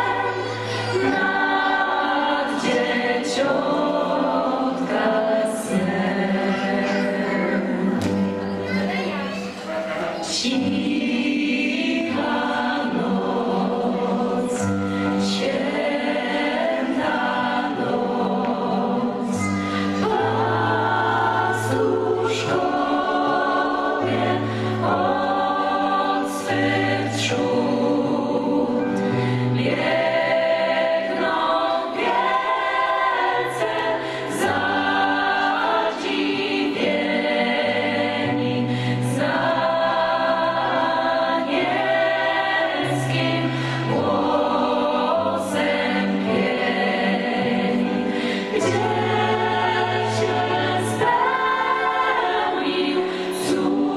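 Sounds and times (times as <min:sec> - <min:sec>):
gospel choir singing: 0:00.0 - 0:53.9.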